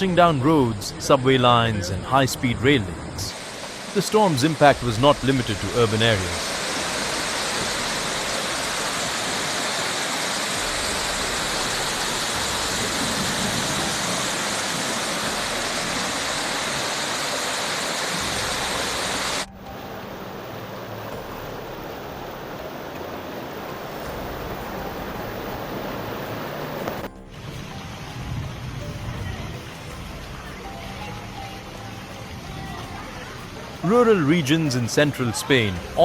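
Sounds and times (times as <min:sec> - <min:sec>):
rushing flood water: 0:00.0 - 0:36.0.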